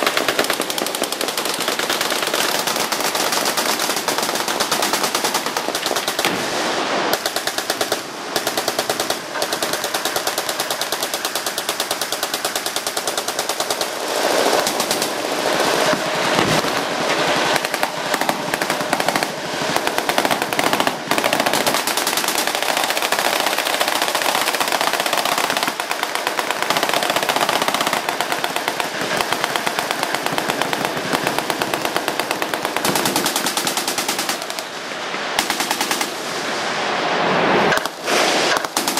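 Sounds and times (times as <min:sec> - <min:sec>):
machine guns firing: 0:00.0 - 0:34.8, 0:35.4 - 0:36.3, 0:37.8 - 0:38.9.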